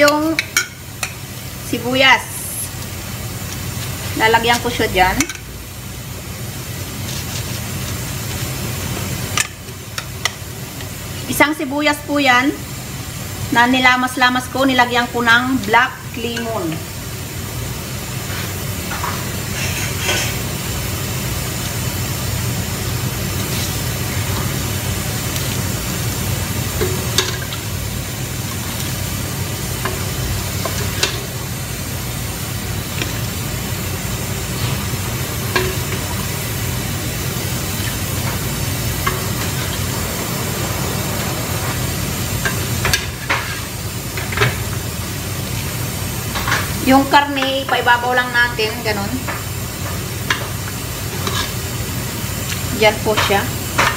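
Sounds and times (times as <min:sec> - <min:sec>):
steady hiss and low hum: 0:00.0 - 0:53.9.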